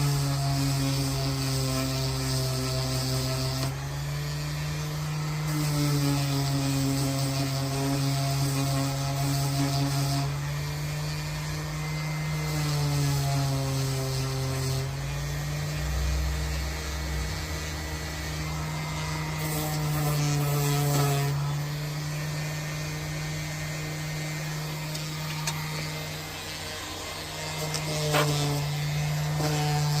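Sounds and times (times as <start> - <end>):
power tool humming: 0.0 - 30.0.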